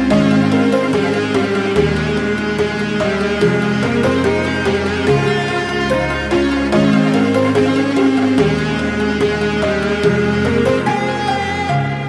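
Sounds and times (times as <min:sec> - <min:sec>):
instrumental music over light beat: 0:00.0 - 0:12.0.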